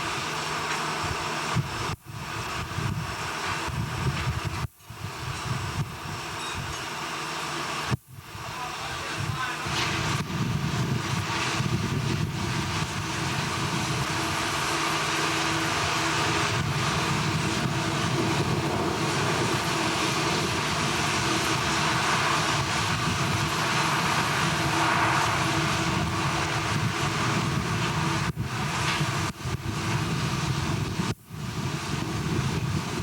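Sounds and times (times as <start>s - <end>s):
machinery roar and hum: 0.0s - 33.0s.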